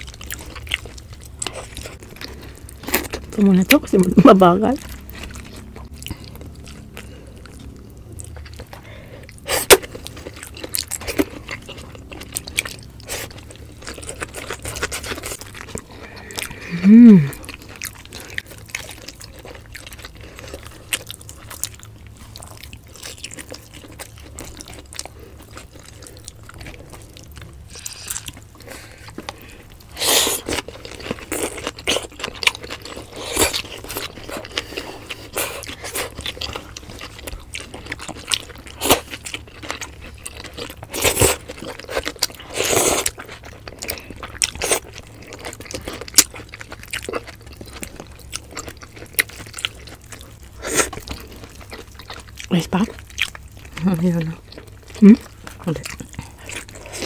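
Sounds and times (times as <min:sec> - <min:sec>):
chewing with wet mouth clicks: 0:00.0 - 0:16.7, 0:17.3 - 0:57.0.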